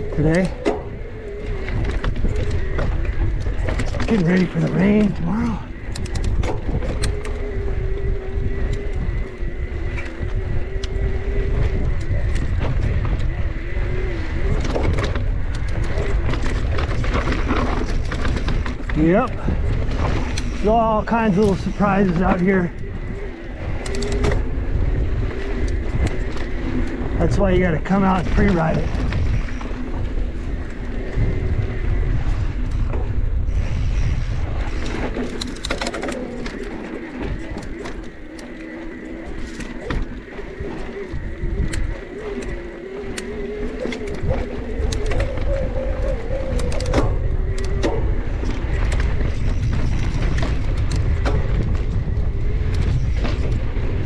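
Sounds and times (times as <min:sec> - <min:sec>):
electric bike motor whining: 0:00.0 - 0:54.0
wind rumble on microphone: 0:00.0 - 0:54.0.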